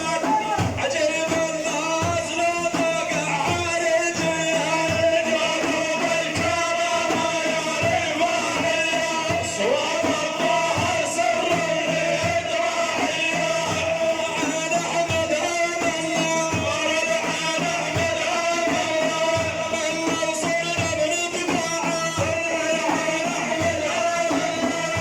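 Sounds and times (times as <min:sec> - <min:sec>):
low drum beat: 0:00.0 - 0:25.0
person singing: 0:00.0 - 0:25.0.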